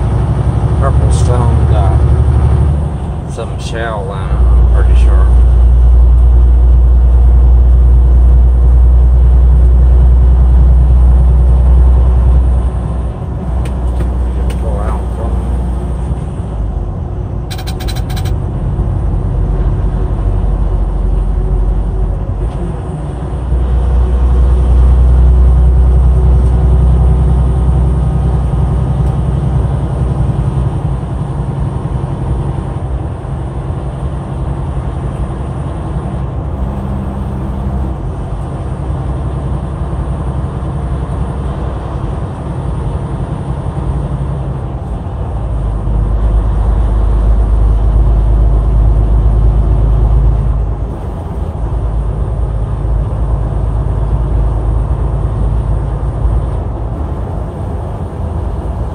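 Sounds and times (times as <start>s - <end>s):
truck engine and tyre rumble: 0.0s - 58.9s.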